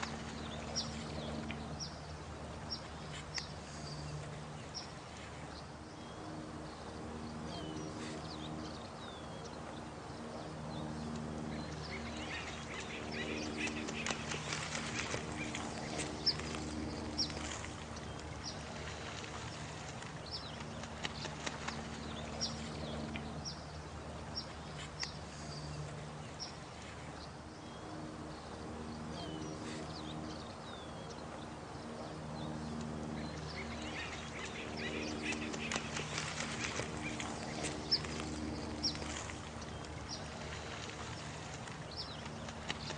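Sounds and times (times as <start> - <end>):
running water: 0.0 - 31.8, 32.6 - 42.9
low humming chorus: 0.0 - 42.9.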